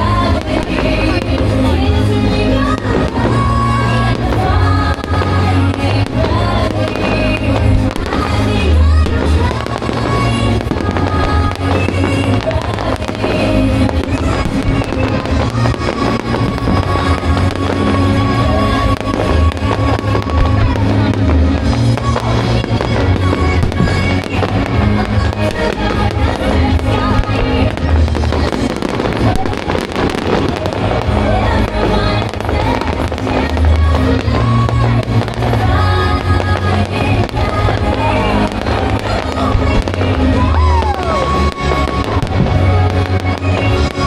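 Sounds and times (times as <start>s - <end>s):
fireworks banging: 0.0s - 44.0s
loud music with pounding bass: 0.0s - 44.0s.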